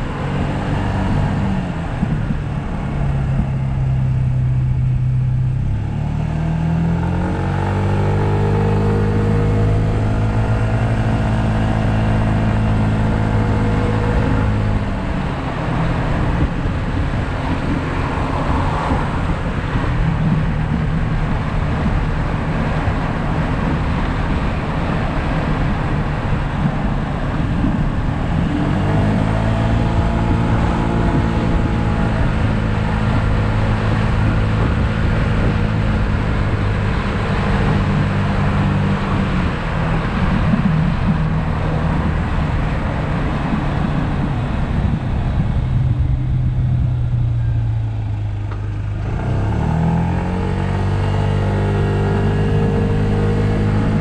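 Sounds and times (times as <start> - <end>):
scooter engine humming: 0.0 - 54.0
wind and road noise: 0.0 - 54.0.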